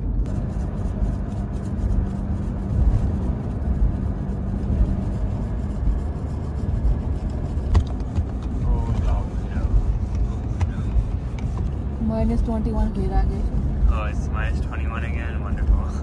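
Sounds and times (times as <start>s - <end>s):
steady hum: 0.0s - 16.0s
tyre and engine rumble: 0.0s - 16.0s.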